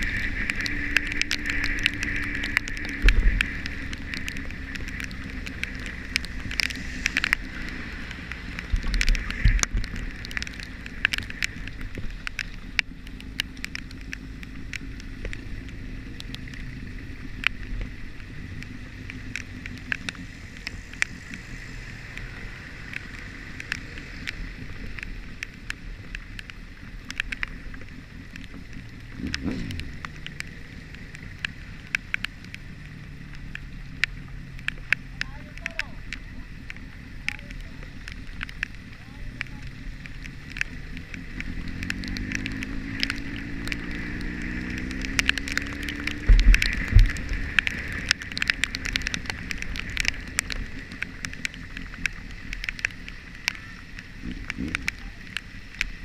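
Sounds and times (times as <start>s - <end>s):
motorcycle engine running: 0.0s - 56.0s
road and wind noise: 0.0s - 56.0s
sharp ticks: 0.0s - 56.0s.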